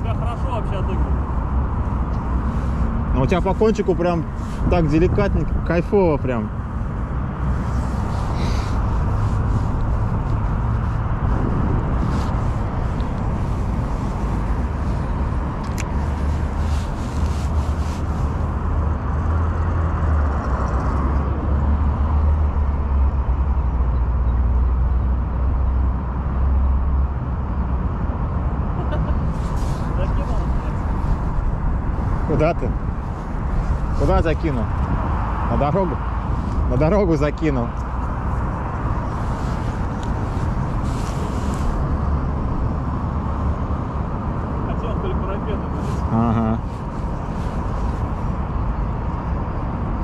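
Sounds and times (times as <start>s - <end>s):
wind buffeting microphone: 0.0s - 21.6s, 27.1s - 50.0s
road traffic rumble: 0.0s - 50.0s.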